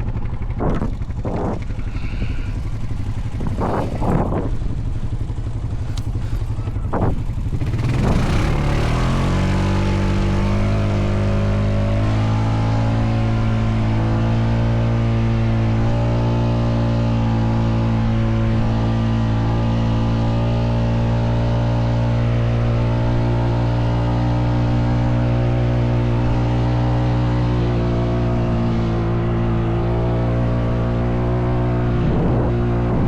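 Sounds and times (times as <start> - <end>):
atv engine running steadily: 0.0 - 33.0.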